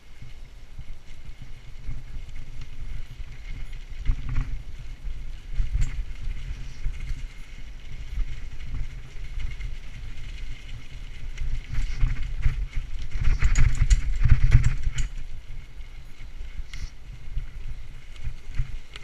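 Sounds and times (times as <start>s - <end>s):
bicycle rattling over bumps: 0.0s - 19.0s
bicycle tyres rumbling on dirt: 0.0s - 19.0s
wind buffeting microphone: 0.0s - 19.0s.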